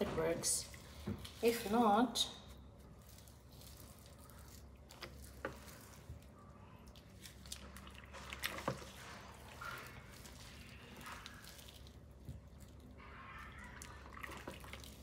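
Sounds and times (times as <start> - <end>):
faint wet squishing: 0.2 - 15.0.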